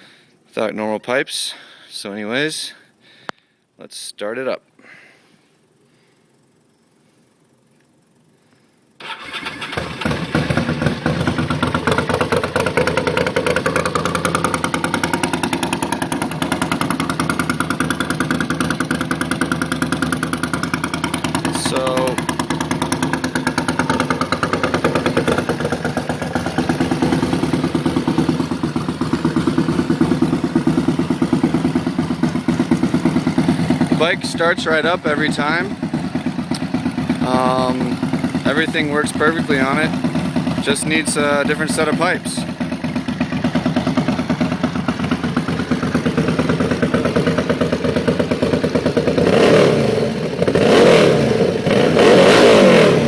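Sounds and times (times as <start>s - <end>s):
motorcycle engine idling: 9.0s - 53.0s.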